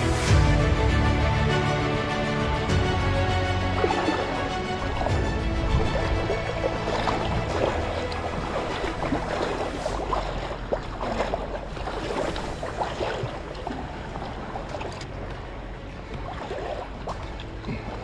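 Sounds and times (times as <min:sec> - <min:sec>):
low wind rumble: 0:00.0 - 0:18.0
water lapping and sloshing: 0:00.0 - 0:18.0.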